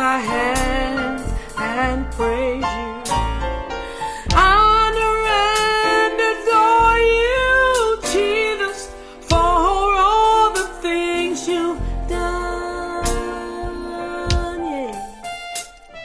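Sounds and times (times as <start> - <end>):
woman singing gospel song: 0.0 - 3.4, 4.2 - 15.4
electric keyboard chords and bass: 0.0 - 16.0.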